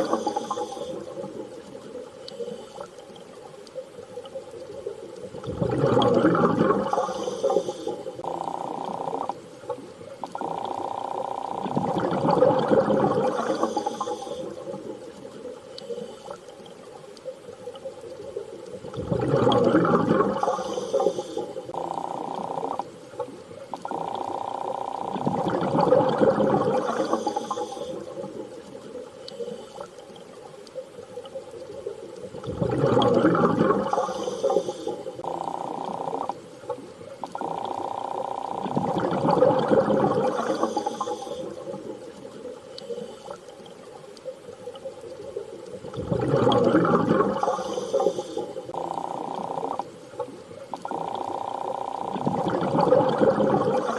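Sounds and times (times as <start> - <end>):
underwater water noise: 0.0 - 53.9.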